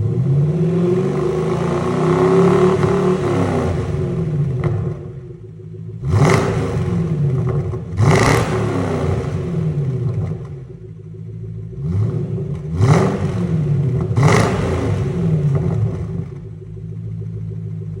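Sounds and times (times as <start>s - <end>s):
car engine revving and idling: 0.0s - 18.0s.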